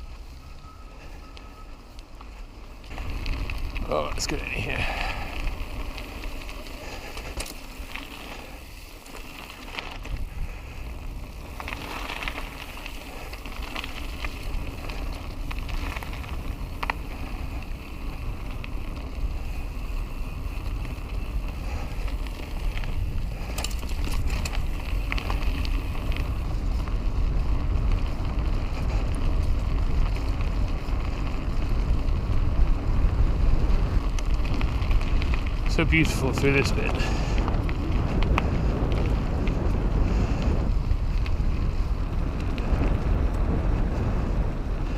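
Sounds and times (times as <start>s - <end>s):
bike clicks and rattles: 0.0s - 44.9s
bike tyre rumble: 0.0s - 44.9s
wind buffeting microphone: 2.7s - 44.9s.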